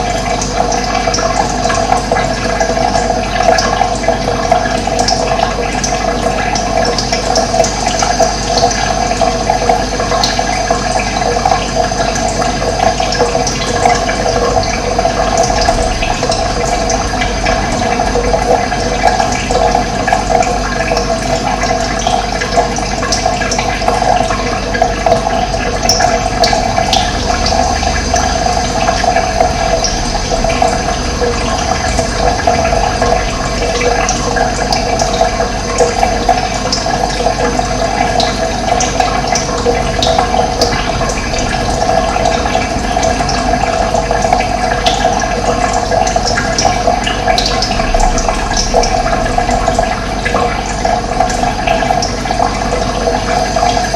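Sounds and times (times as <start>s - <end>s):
running water: 0.0s - 53.9s.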